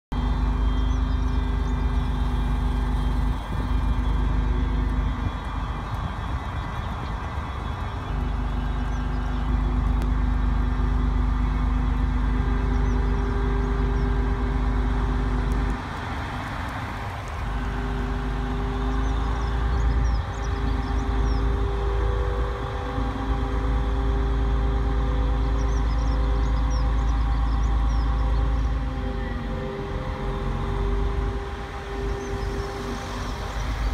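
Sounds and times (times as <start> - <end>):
diesel locomotive engine rumbling: 0.0 - 33.9
small birds chirping: 0.2 - 30.2.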